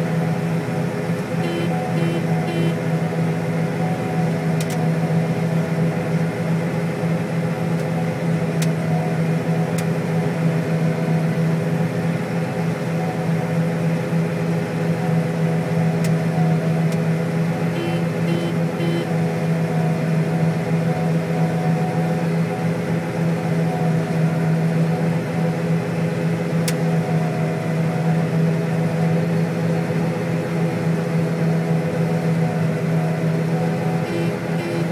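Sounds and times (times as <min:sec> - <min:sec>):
combine harvester droning: 0:00.0 - 0:34.9.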